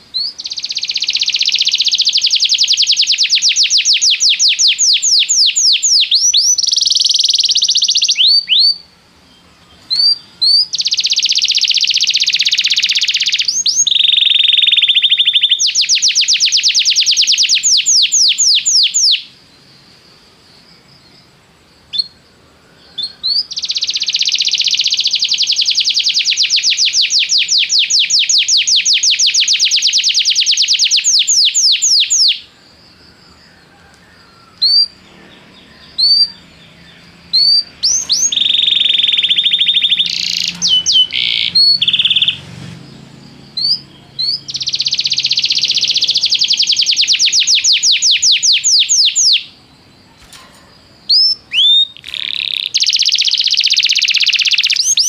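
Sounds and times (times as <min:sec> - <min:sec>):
canary singing: 0:00.0 - 0:19.4, 0:22.8 - 0:55.0.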